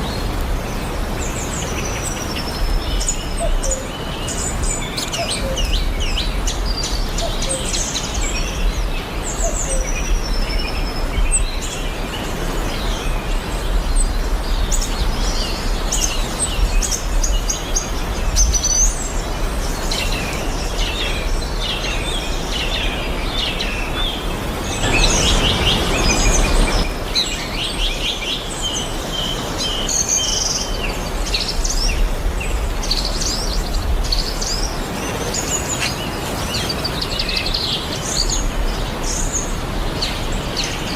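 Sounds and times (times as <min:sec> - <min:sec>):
birds chirping and singing: 0:00.1 - 0:40.9.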